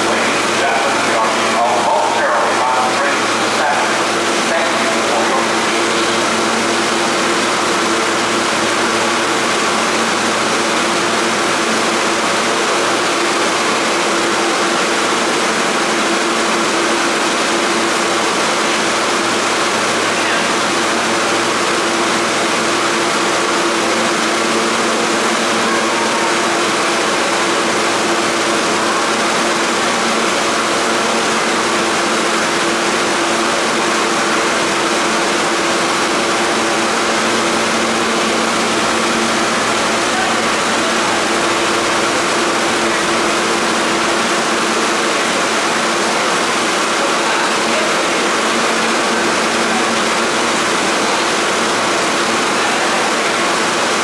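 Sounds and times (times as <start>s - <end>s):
subway car equipment humming: 0.0s - 54.0s.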